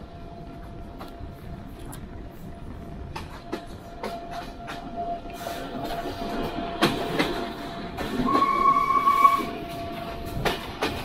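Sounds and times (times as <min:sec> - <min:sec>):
train running on track: 0:00.0 - 0:11.0.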